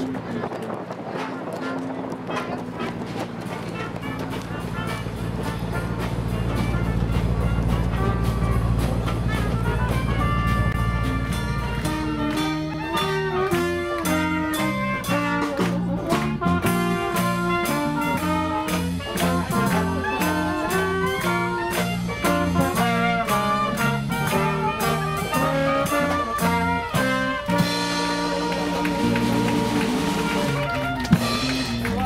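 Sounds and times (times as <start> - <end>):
jazz band playing: 0.0 - 32.0
bass line: 4.0 - 32.0.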